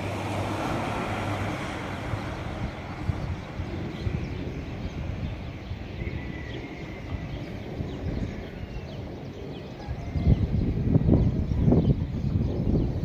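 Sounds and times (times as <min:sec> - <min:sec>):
faint birds chirping: 0:00.6 - 0:13.0.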